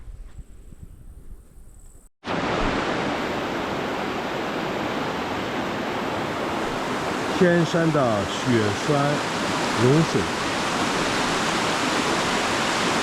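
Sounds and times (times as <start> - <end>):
mountain stream rushing: 2.3 - 13.0.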